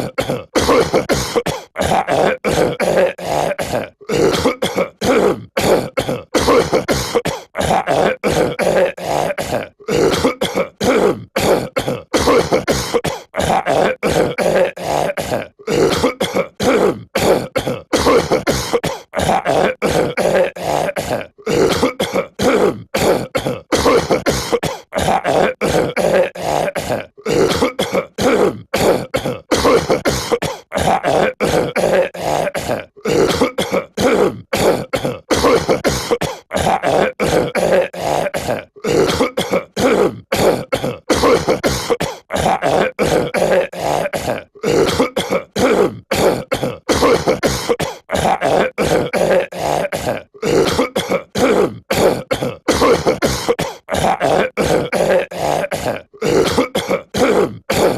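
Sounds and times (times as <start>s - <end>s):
cartoon voice clearing throat: 0.0s - 57.9s
cartoon voice coughing: 0.0s - 57.9s.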